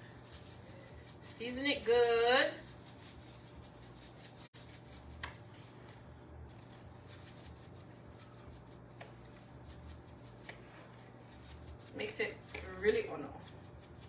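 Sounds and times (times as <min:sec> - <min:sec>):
salt shaker rattling: 0:00.0 - 0:05.8, 0:06.6 - 0:14.0
steady low hum: 0:00.0 - 0:14.0.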